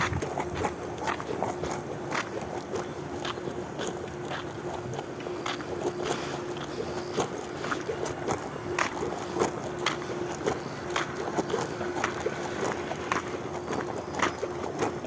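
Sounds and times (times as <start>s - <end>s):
footsteps walking: 0.0s - 15.0s
steady hum: 0.0s - 15.0s.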